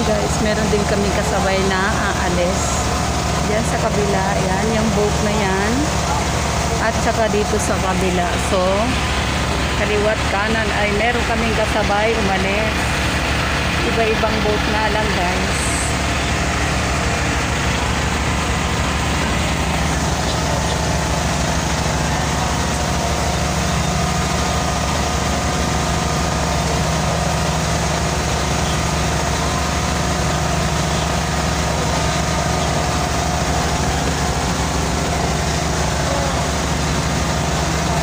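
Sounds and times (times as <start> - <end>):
boat engine droning: 0.0 - 38.0.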